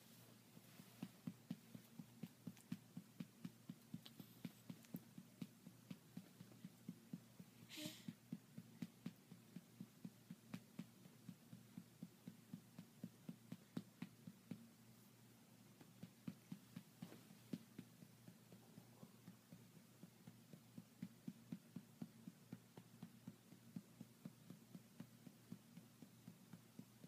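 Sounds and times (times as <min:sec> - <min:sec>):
soft patting on baby's back: 0:00.6 - 0:14.7, 0:15.8 - 0:27.0.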